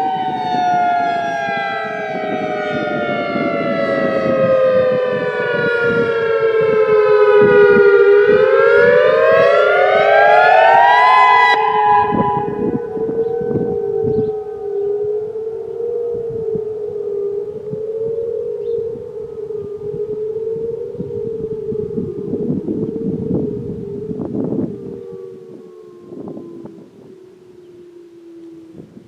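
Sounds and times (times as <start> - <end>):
distant warning sirens: 0.0 - 29.0
warning siren wailing: 0.0 - 29.0.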